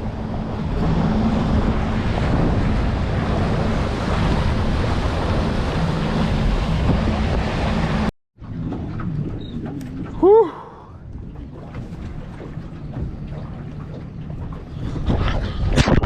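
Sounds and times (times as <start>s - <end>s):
wind buffeting microphone: 0.0s - 10.3s, 11.0s - 16.0s
low motor hum: 0.0s - 16.0s
water rushing past boat: 0.0s - 16.0s.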